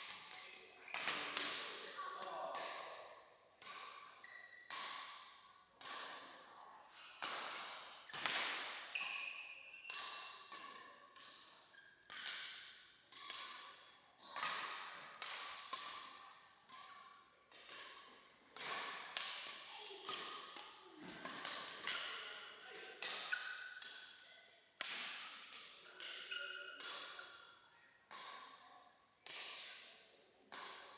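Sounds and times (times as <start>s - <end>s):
rackets hitting shuttlecock: 0.0s - 3.0s, 3.6s - 6.4s, 7.2s - 9.2s, 9.8s - 24.2s, 24.8s - 27.5s, 28.1s - 28.6s, 30.5s - 30.9s.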